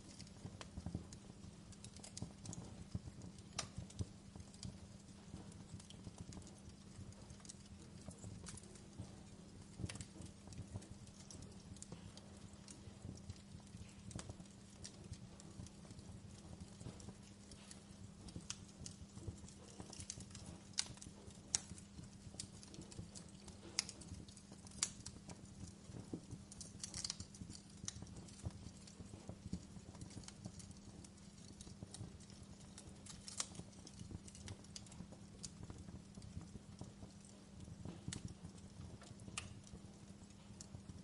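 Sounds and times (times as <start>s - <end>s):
campfire crackling: 0.0s - 41.0s.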